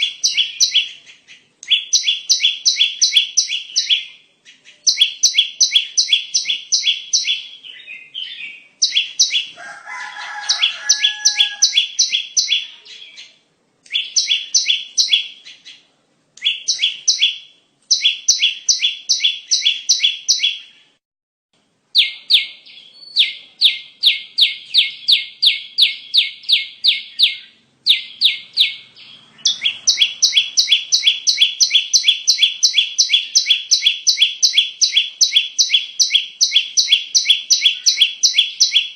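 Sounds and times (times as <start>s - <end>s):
bird sharp high chirps: 0.0s - 21.0s, 22.0s - 38.9s.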